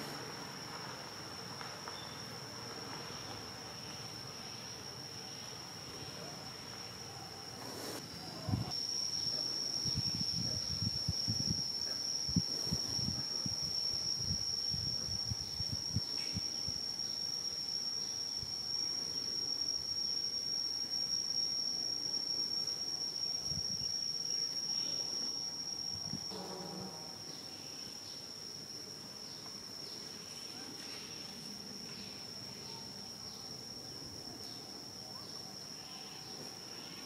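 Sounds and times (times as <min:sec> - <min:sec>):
insect buzzing: 0:00.0 - 0:37.0.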